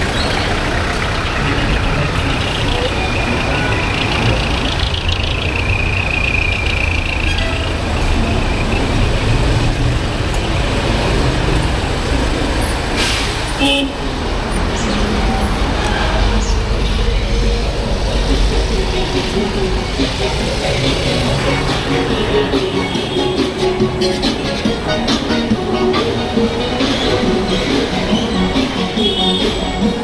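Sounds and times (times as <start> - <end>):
low traffic rumble: 0.0 - 30.0
vehicle engines running: 0.0 - 30.0.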